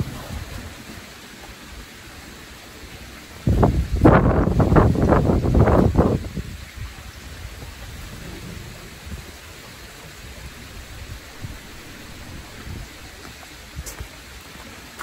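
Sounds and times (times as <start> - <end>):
wind on microphone: 0.0 - 0.9, 3.1 - 15.0.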